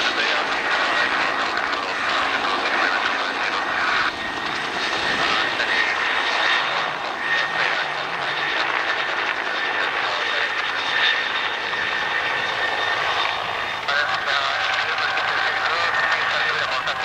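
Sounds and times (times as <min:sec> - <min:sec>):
helicopter rotor rush: 0:00.0 - 0:17.0
high turbine whine: 0:00.0 - 0:17.0.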